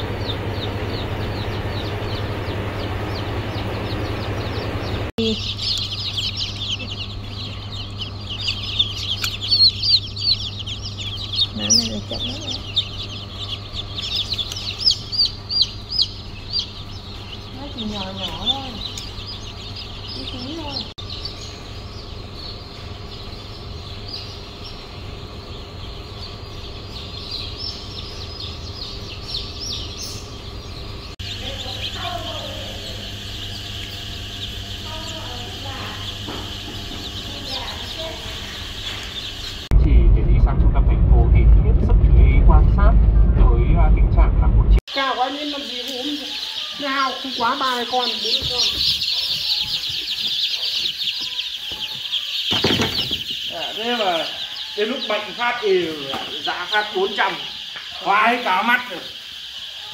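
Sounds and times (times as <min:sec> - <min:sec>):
chicks peeping: 0:00.0 - 0:40.3, 0:44.8 - 0:59.9
steady machine hum: 0:00.0 - 0:59.9.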